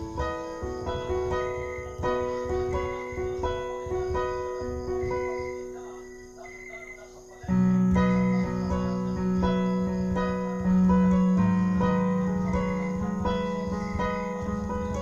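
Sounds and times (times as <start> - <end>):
digital piano notes: 0.0 - 15.0.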